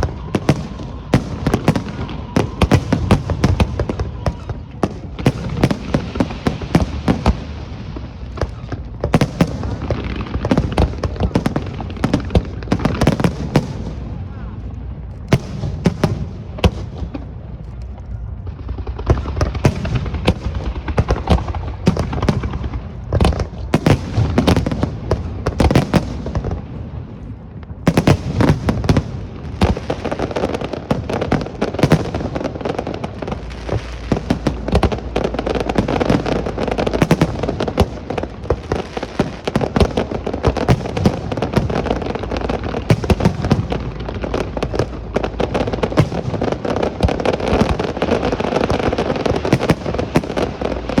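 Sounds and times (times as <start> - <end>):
fireworks bangs and crackling: 0.0 - 51.0.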